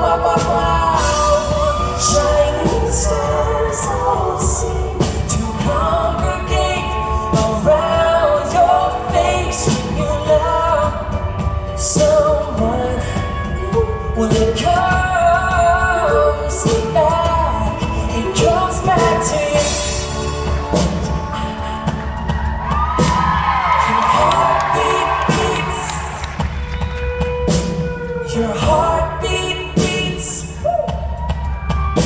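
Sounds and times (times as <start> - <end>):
voices singing: 0.0 - 26.6, 28.1 - 32.0
drum and cymbal beat: 0.0 - 32.0
live pop band: 0.0 - 32.0.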